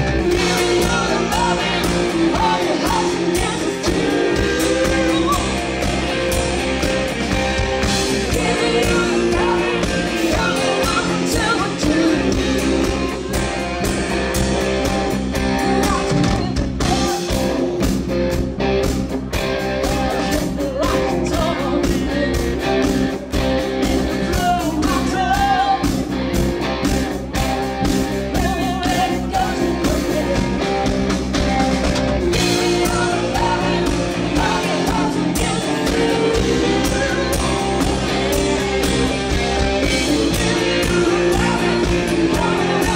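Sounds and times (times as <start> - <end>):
woman singing lead: 0.0 - 18.1, 19.4 - 26.2, 27.8 - 31.6, 32.2 - 42.9
bass guitar: 0.0 - 42.9
drums: 0.0 - 42.9
electric guitar: 0.0 - 42.9.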